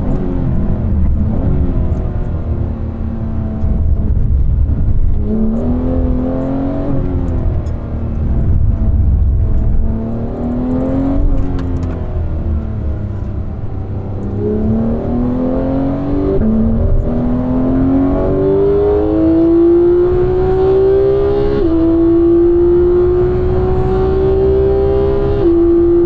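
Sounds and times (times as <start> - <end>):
car engine revving through gears: 0.0 - 26.0.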